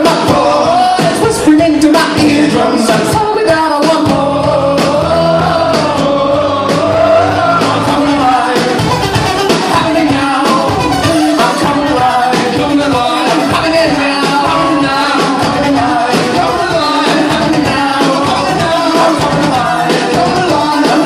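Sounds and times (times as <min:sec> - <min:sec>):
lead vocal singing: 0:00.0 - 0:21.0
live rock band playing: 0:00.0 - 0:21.0.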